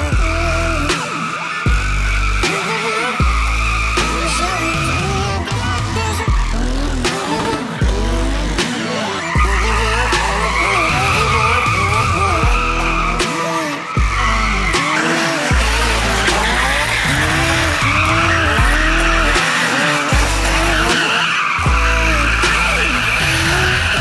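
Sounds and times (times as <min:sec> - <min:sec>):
car engine revving: 0:00.0 - 0:24.0
music with heavy bass: 0:00.0 - 0:24.0
tyres squealing on pavement: 0:00.0 - 0:24.0.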